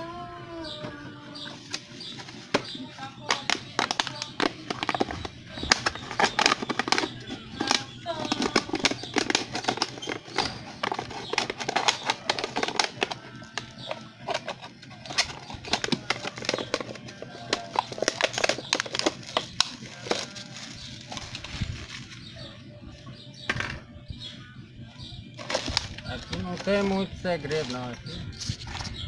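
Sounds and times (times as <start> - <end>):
background music: 0.0 - 29.0
plastic bottle crinkling: 1.7 - 22.4, 25.4 - 29.0.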